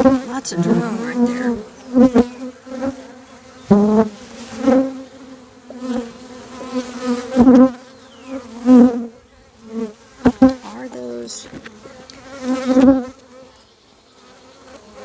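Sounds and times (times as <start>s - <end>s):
bee passing close by: 0.0s - 13.5s
bees buzzing: 0.0s - 13.5s.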